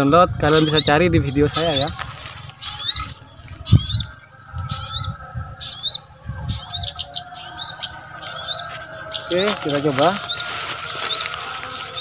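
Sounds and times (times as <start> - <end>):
recorded bird chirps: 0.0 - 12.0.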